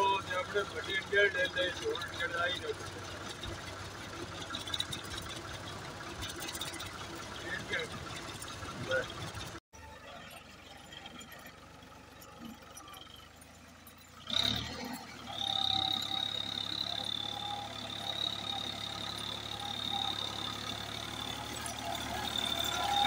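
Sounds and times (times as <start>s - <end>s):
tractor diesel engine: 0.0s - 23.0s.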